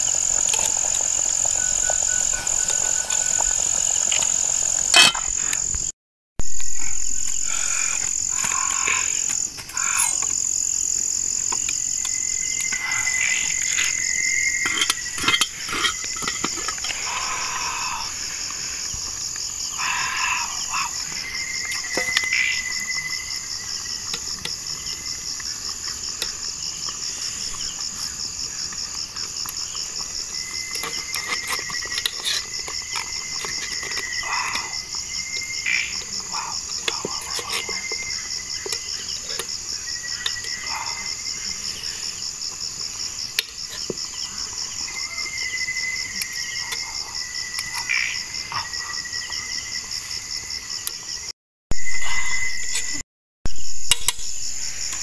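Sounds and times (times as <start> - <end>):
crickets trilling: 0.0 - 55.0
lower insect trill: 0.0 - 55.0.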